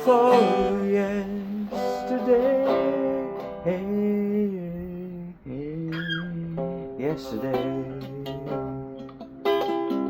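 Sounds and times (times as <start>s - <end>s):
person singing a slow ballad: 0.0s - 9.6s
guitar chords: 0.0s - 10.0s.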